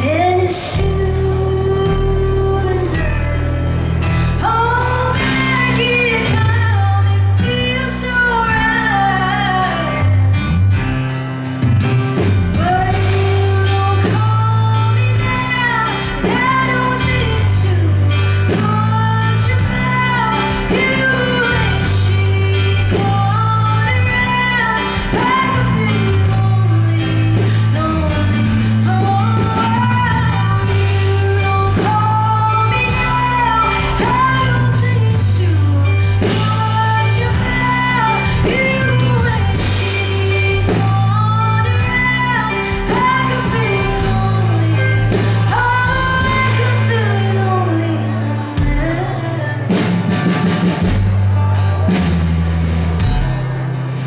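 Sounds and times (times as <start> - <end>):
woman singing: 0.0 - 10.9, 12.2 - 50.6.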